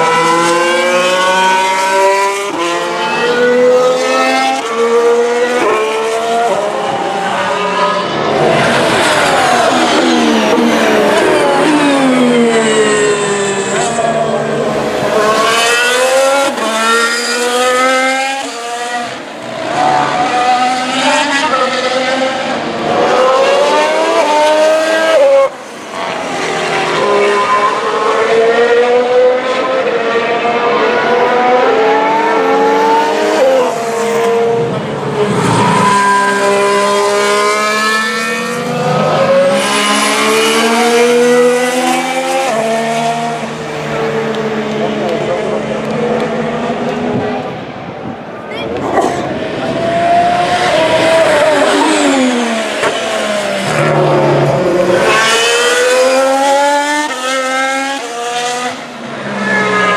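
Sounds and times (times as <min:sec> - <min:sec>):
racing car engines accelerating past: 0:00.0 - 0:47.9, 0:48.8 - 0:59.9.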